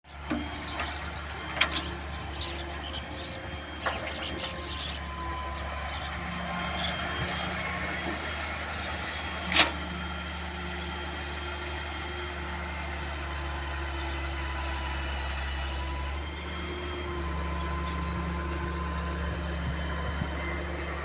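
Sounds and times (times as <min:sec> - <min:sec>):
diesel engine idling: 0:00.1 - 0:21.0.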